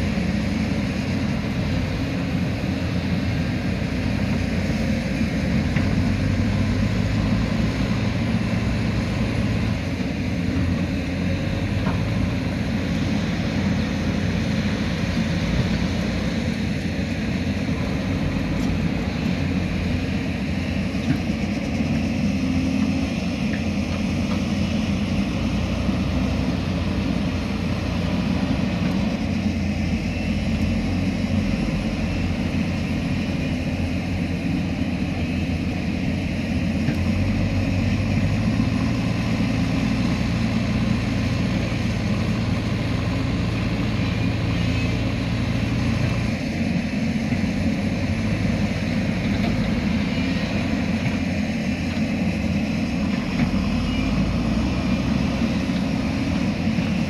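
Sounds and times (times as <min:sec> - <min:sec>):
diesel engines under load: 0:00.0 - 0:57.0.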